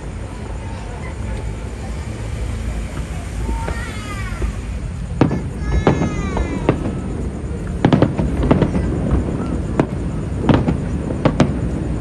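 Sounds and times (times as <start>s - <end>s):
fireworks bursting with sharp bangs: 0.0s - 12.0s
steady low rumble: 0.0s - 12.0s
falling firework whistle: 0.1s - 12.0s.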